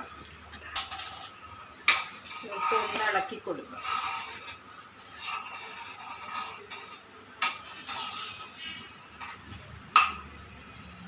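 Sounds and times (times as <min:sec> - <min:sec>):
ladle stirring in a metal pot: 0:00.0 - 0:10.8.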